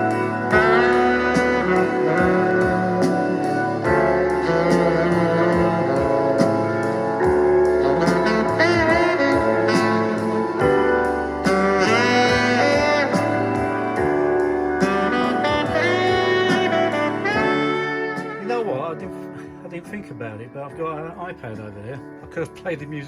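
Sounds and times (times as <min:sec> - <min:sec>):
saxophone music through speaker: 0:00.0 - 0:23.0.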